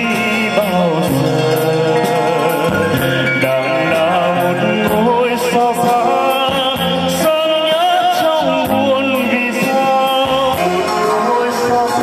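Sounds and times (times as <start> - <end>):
backing music: 0.0 - 12.0
man singing into a microphone: 0.0 - 12.0.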